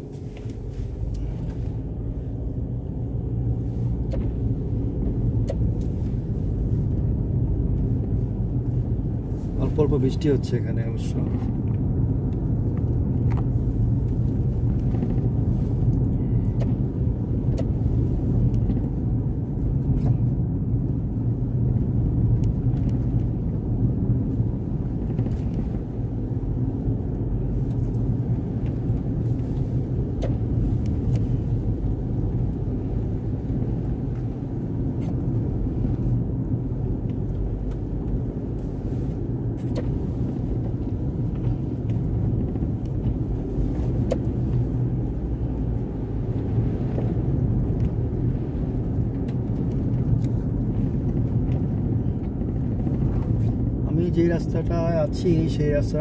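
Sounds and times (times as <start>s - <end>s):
car driving on wet road: 0.0s - 56.0s.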